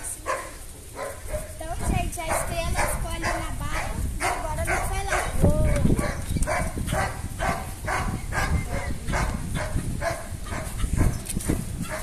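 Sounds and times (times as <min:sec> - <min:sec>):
wind rumbling on microphone: 0:00.0 - 0:12.0
dog barking: 0:00.2 - 0:01.6, 0:02.2 - 0:11.2.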